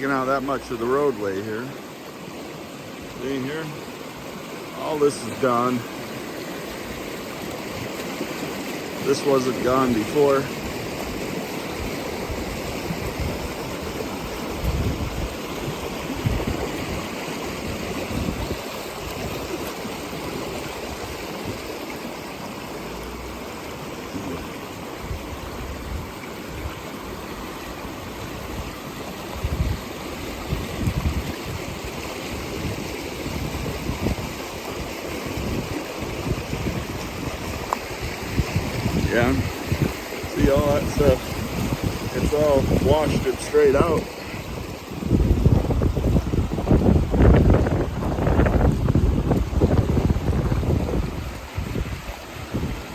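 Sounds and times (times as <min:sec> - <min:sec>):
creek water rushing over rocks: 0:00.0 - 0:52.9.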